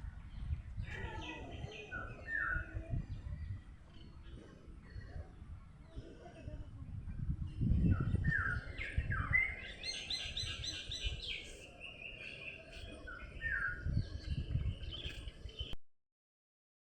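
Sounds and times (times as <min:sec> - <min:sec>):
songbirds singing: 0:00.0 - 0:15.8.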